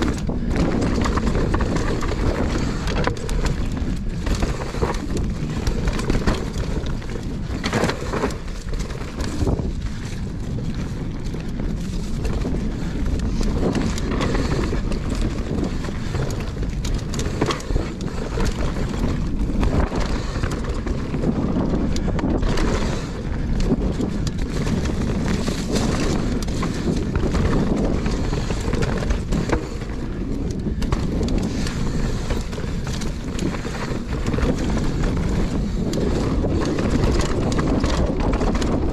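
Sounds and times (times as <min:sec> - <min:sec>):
bike knocking and rattling: 0:00.0 - 0:38.9
bike tyres on dirt and leaves: 0:00.0 - 0:38.9
wind rushing over microphone: 0:00.0 - 0:38.9.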